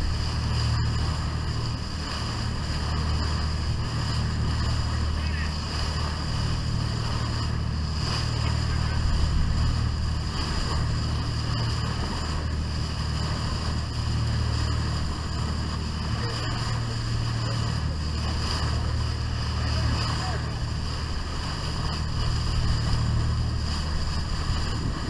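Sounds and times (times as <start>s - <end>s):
boat engine running: 0.0s - 25.0s
bow wave splashing along hull: 0.0s - 25.0s.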